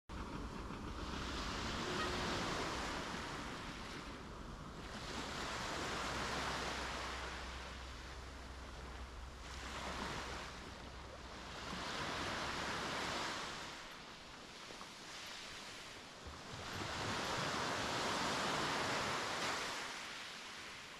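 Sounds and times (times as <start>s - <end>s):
sea waves breaking on beach: 0.1s - 20.9s.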